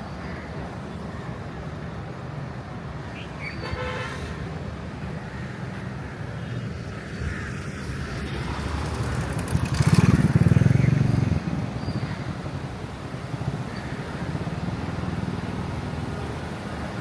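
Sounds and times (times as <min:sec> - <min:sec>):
traffic engines running: 0:00.0 - 0:17.0.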